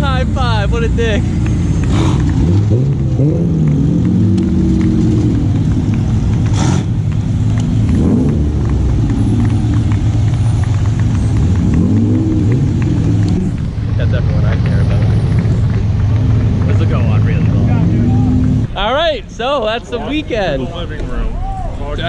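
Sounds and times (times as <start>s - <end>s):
race car engines rumbling: 0.0s - 22.0s.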